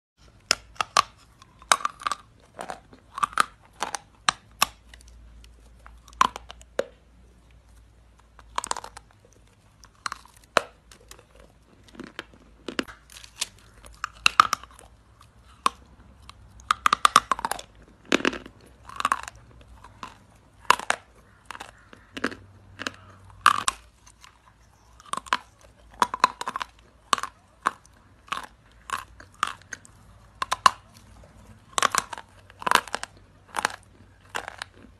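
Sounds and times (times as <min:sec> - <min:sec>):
chalk crunching in mouth: 0:00.2 - 0:34.9.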